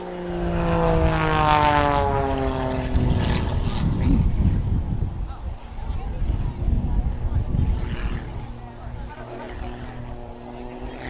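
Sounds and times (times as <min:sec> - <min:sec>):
propeller plane flying past: 0:00.0 - 0:11.0.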